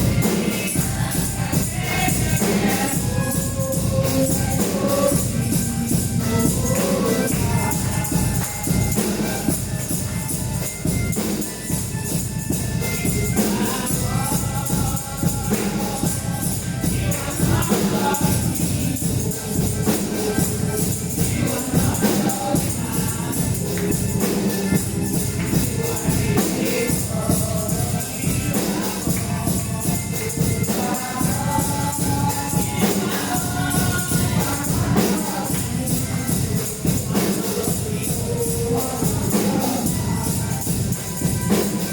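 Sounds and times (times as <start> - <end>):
drums and tambourine beat: 0.0 - 41.9
gospel singing: 0.0 - 41.9.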